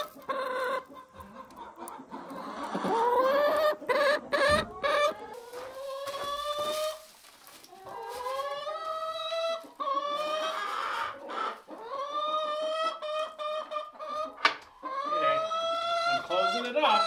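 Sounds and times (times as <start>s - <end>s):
hens calling: 0.0s - 17.0s.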